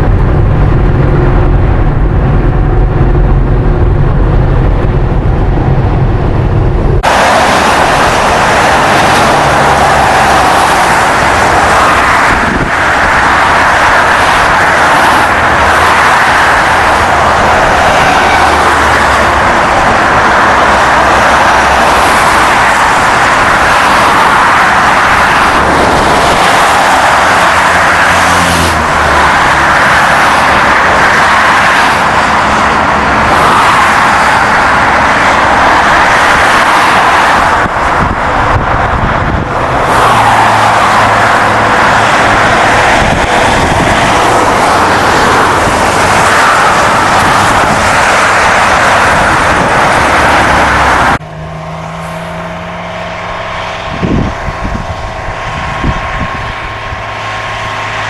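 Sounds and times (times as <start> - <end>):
low engine drone: 0.0 - 58.0
road and wind noise: 0.0 - 58.0.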